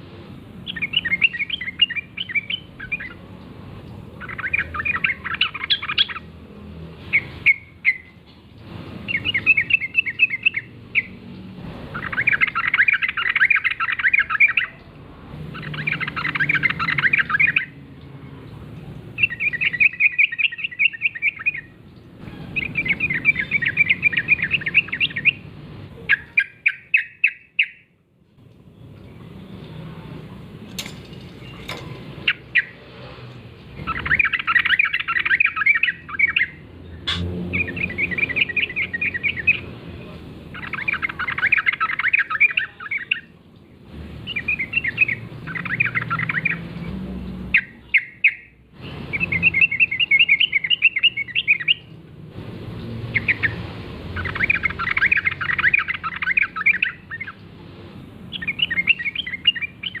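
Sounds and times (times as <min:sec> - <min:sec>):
bird chattering song: 0:00.6 - 0:06.4, 0:07.1 - 0:08.2, 0:09.0 - 0:14.9, 0:15.5 - 0:17.8, 0:18.8 - 0:27.9, 0:30.6 - 0:32.8, 0:33.8 - 0:46.7, 0:47.5 - 0:51.9, 0:53.1 - 0:53.6, 0:54.2 - 0:57.5, 0:58.2 - 1:00.0.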